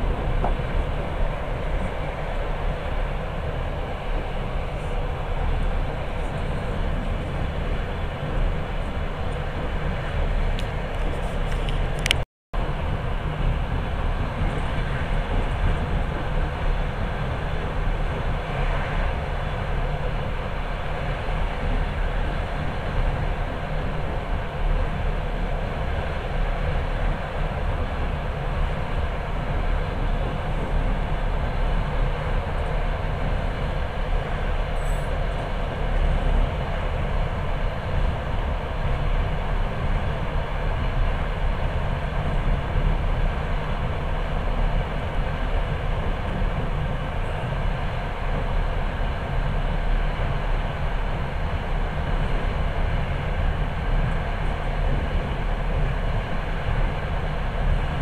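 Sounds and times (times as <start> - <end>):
moving train rumble inside carriage: 0.0 - 58.0.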